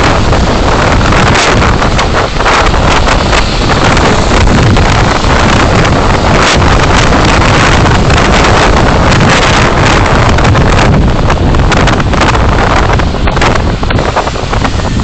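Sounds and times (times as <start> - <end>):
wind and road rush: 0.0 - 15.0
wind buffeting microphone: 0.0 - 15.0.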